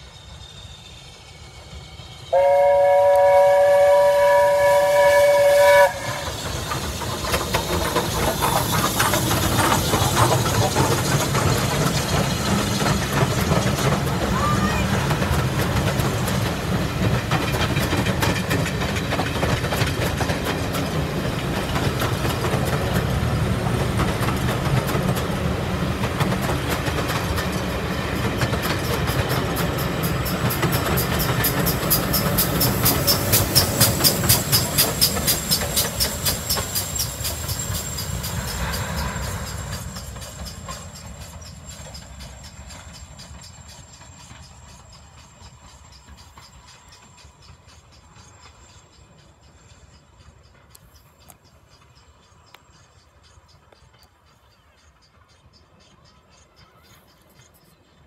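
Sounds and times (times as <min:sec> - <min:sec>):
train wheels rumbling on track: 0:00.0 - 0:58.0
clickety-clack over rail joints: 0:04.1 - 0:58.0.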